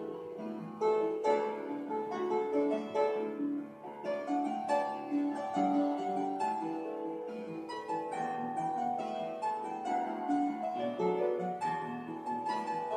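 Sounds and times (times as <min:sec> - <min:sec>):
piano melody: 0:00.0 - 0:12.9.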